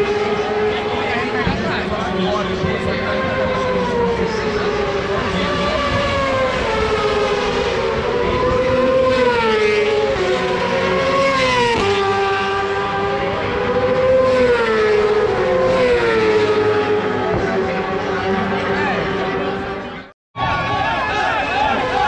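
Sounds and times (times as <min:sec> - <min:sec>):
racing motorcycles at high revs: 0:00.0 - 0:20.0.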